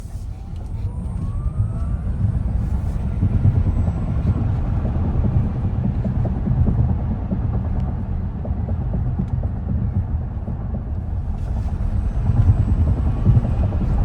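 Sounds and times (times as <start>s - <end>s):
road and tyre rumble: 0.0s - 14.0s.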